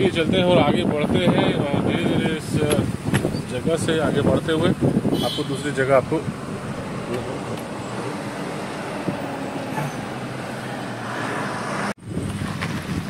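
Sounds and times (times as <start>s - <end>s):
car engine hum and road noise: 0.0s - 13.0s
truck passing: 2.4s - 13.0s.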